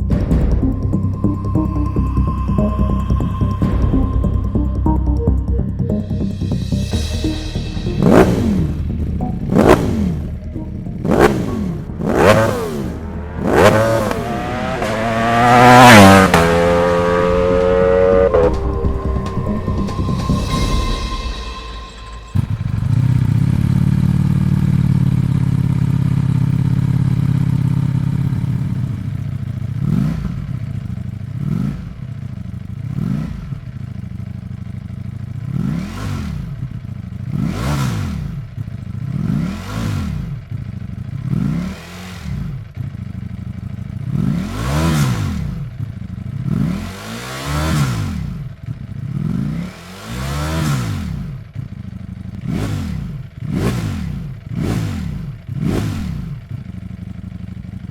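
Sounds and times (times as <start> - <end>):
motorcycle engine idling and revving: 0.0 - 20.6, 21.2 - 57.9.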